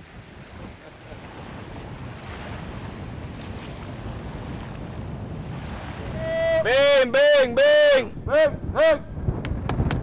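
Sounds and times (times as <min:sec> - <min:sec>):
surf on a beach: 0:00.0 - 0:10.0
wind buffeting microphone: 0:00.0 - 0:10.0.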